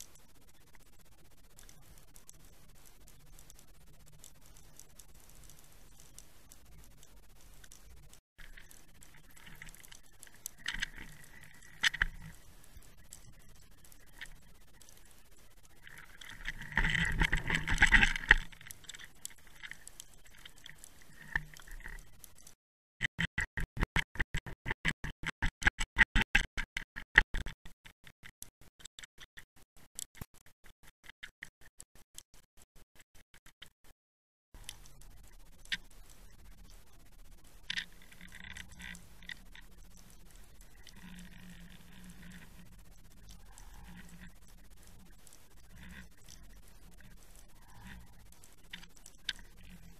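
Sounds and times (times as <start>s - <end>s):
underwater crackle of clicks: 0.0s - 33.7s, 34.6s - 49.9s.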